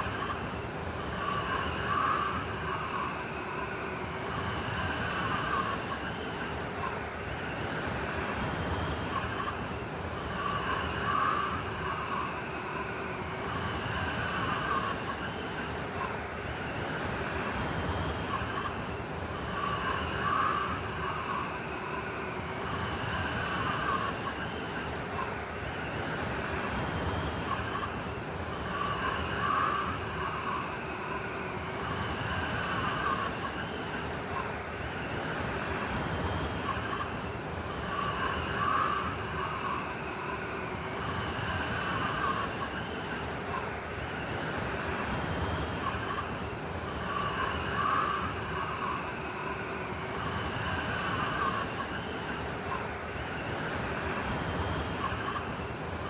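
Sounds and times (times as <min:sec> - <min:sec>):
blizzard wind howling: 0:00.0 - 0:56.0.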